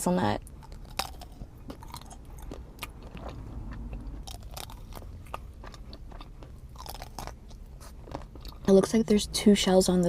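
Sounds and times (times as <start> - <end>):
chewing crunches: 0.4 - 9.0.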